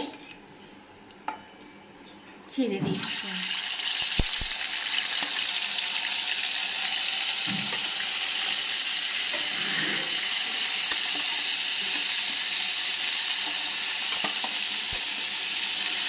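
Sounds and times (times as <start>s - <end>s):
chicken sizzling in hot oil: 3.0s - 16.0s.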